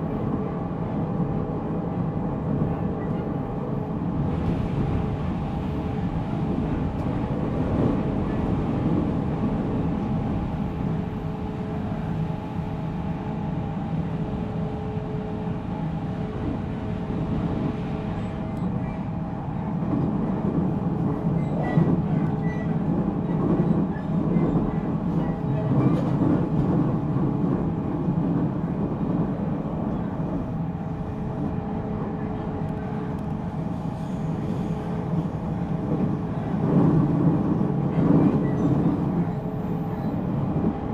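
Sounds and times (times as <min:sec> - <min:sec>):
wheels rumbling on rail: 0:00.0 - 0:40.9.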